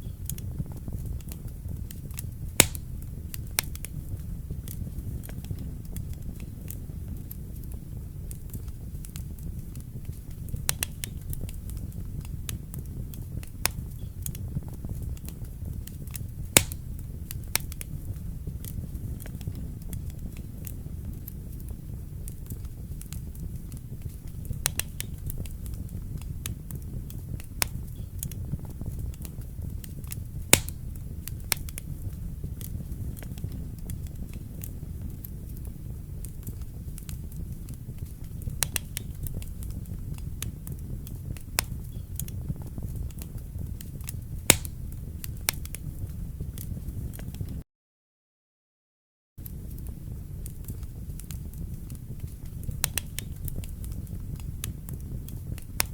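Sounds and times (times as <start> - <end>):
fire rumbling in fireplace: 0.0 - 47.6, 49.4 - 55.9
wood crackling and popping: 0.0 - 47.6, 49.4 - 55.9.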